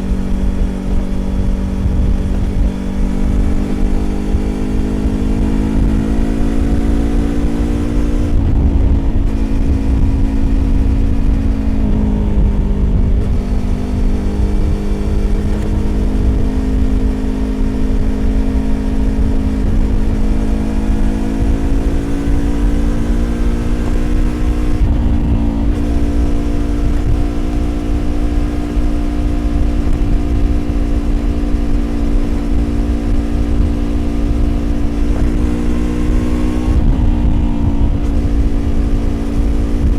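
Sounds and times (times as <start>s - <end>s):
motorcycle engine cruising: 0.0s - 39.9s
wind and road rumble: 0.0s - 39.9s.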